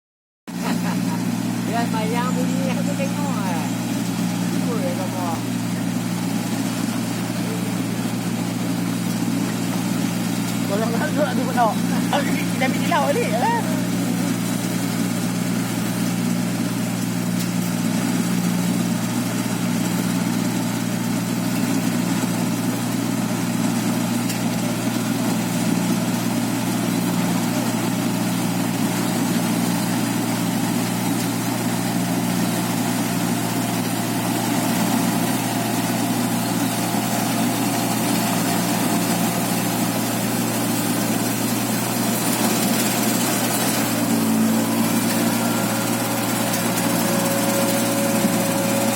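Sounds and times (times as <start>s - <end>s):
machine engine droning: 0.5s - 48.9s.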